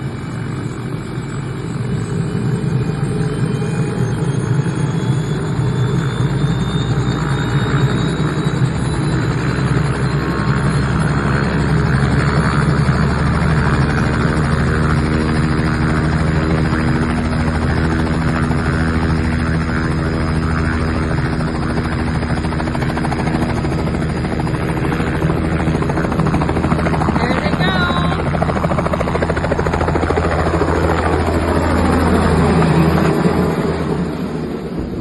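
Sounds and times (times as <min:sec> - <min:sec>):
helicopter engine drone: 0:00.0 - 0:35.0
helicopter rotor beating: 0:00.0 - 0:35.0.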